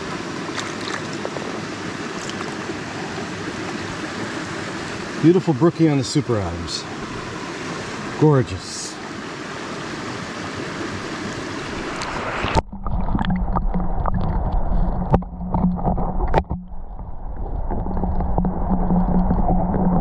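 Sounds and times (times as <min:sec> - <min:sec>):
mountain stream water rushing: 0:00.0 - 0:16.4.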